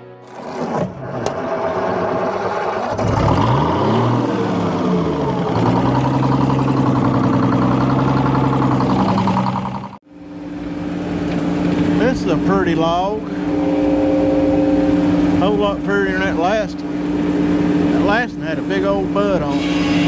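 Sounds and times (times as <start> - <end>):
engine revving: 0.2 - 20.0.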